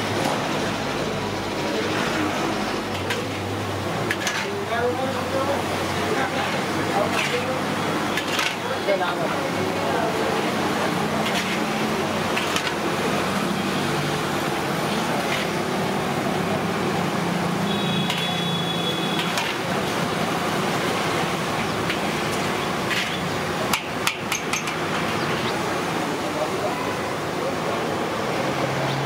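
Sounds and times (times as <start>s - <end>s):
hot oil sizzling: 0.0s - 25.8s.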